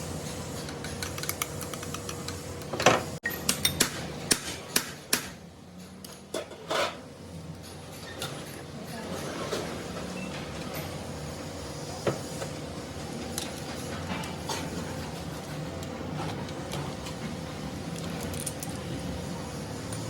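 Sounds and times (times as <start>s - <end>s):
steady workshop hum: 0.0s - 20.0s.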